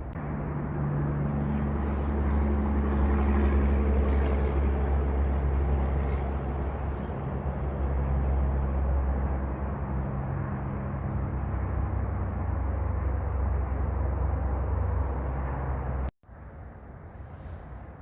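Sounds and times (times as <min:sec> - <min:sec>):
outdoor noise: 0:00.0 - 0:18.0
steady low hum: 0:00.0 - 0:18.0.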